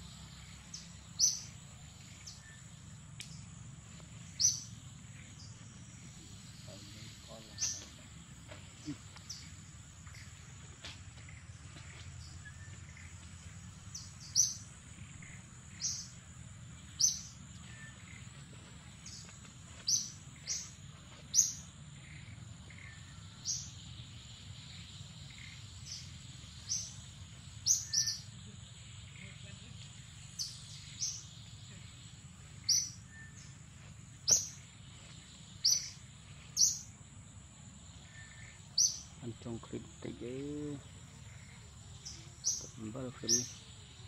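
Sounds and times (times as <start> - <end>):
bird chirping: 0.0 - 44.0
high-pitched insect drone: 0.0 - 44.0.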